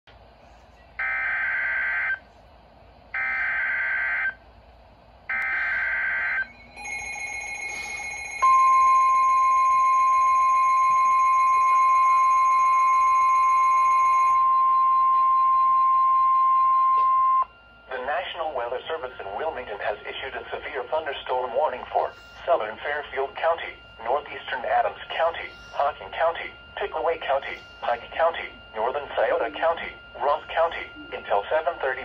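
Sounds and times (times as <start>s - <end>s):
steady warning alarm tone: 1.0s - 2.2s, 3.1s - 4.4s, 5.3s - 32.0s
faint high steady tones: 5.3s - 32.0s.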